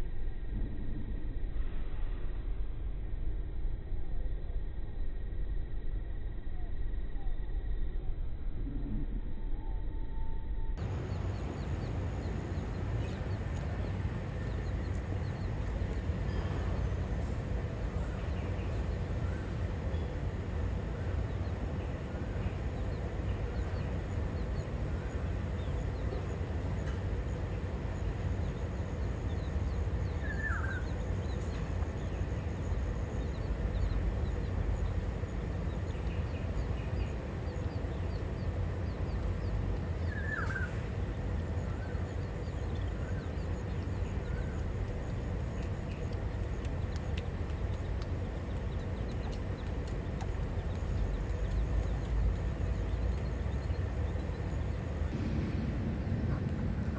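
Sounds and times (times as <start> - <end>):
city background rumble: 10.8 - 56.9.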